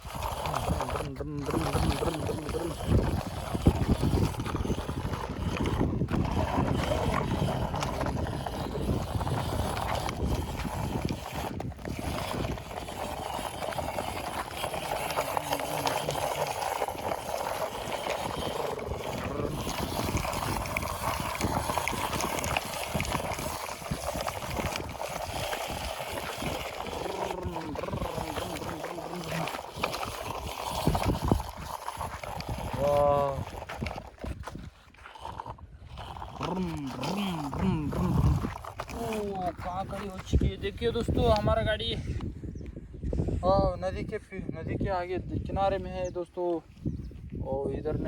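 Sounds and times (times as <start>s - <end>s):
toy truck motor whine: 0.0s - 39.6s
wheels crackling on dirt: 0.0s - 42.3s.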